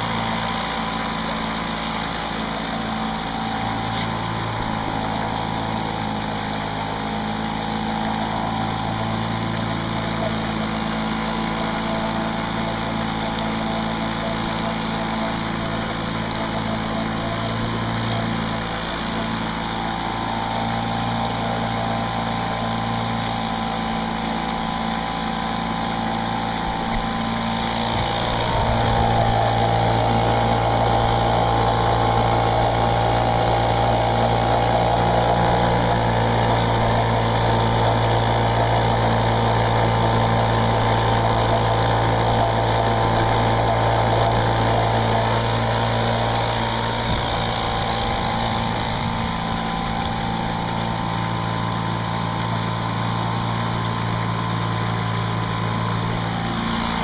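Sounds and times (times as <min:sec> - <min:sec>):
outboard motor running: 0:00.0 - 0:57.0
water washing along hull: 0:00.0 - 0:57.0.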